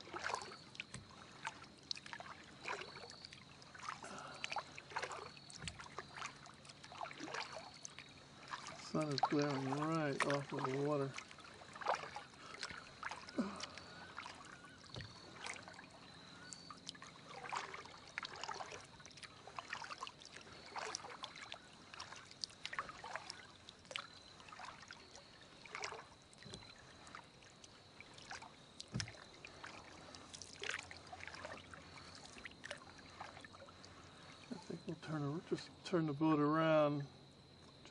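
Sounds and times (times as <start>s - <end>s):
paddle splashing water: 0.0s - 37.9s.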